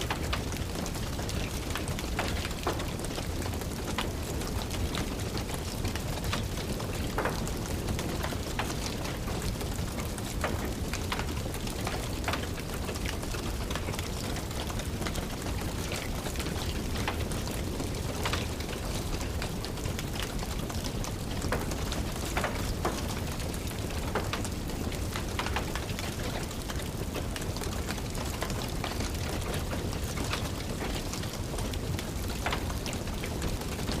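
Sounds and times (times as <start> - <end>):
rain falling: 0.0 - 34.0
wood fire crackling: 0.0 - 34.0.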